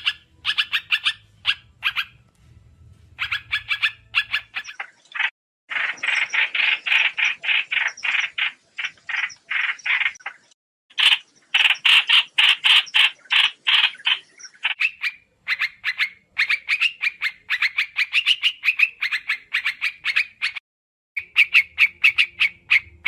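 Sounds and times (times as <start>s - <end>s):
bird chattering calls: 0.0s - 2.2s, 3.2s - 20.6s, 21.2s - 23.0s.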